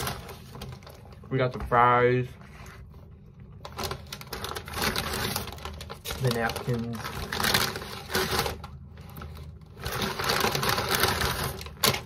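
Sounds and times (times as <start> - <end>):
paper bag rustling: 0.0 - 3.0, 3.6 - 12.0.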